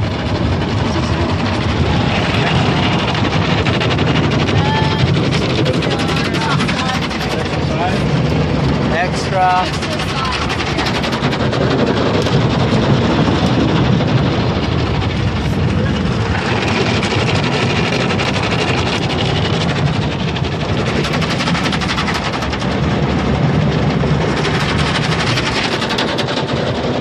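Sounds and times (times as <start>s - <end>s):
car wash drumming on car: 0.0s - 27.0s.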